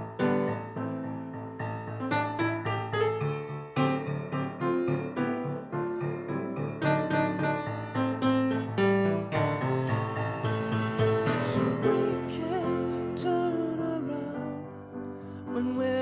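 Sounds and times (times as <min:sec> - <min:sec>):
grand piano playing: 0:00.0 - 0:16.0.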